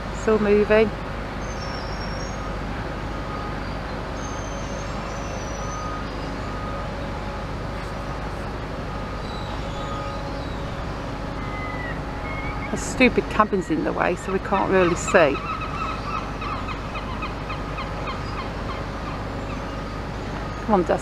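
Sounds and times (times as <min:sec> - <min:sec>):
distant engines rumbling: 0:00.0 - 0:21.0.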